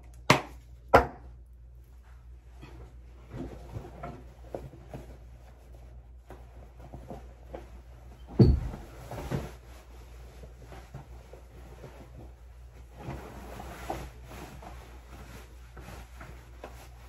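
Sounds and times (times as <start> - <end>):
fabric rustling: 2.0 - 17.0.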